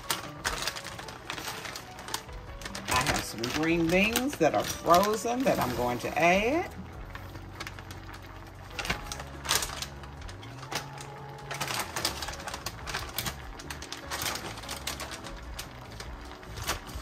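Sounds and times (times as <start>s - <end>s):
frozen beans rattling into pot: 0.0s - 17.0s.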